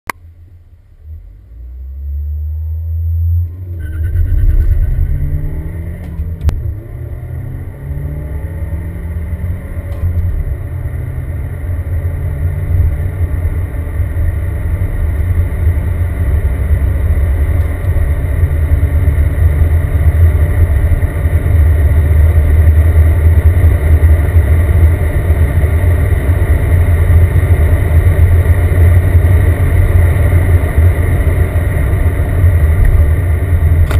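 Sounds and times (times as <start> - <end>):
car engine accelerating: 0.1 - 33.9.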